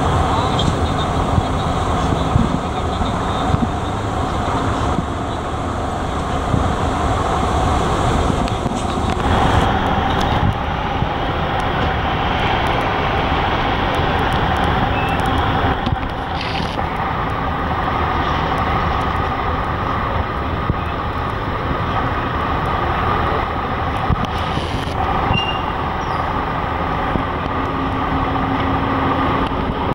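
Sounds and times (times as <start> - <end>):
boat engines droning with whine: 0.0 - 29.9.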